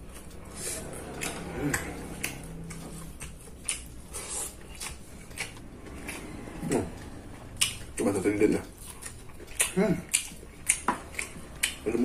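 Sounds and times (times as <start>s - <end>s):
chewing with wet mouth clicks: 0.0s - 12.0s.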